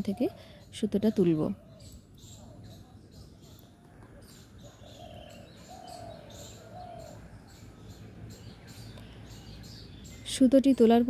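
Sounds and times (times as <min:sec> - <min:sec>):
faint bird calls: 0:00.0 - 0:10.4.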